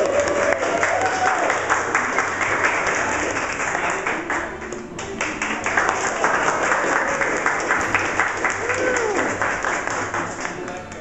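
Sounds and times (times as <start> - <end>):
people applauding: 0.0 - 11.0.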